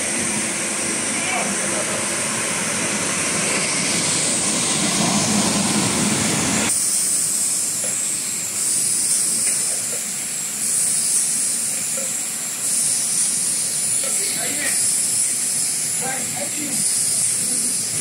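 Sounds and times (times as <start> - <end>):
bottling machinery hissing: 0.0 - 18.0.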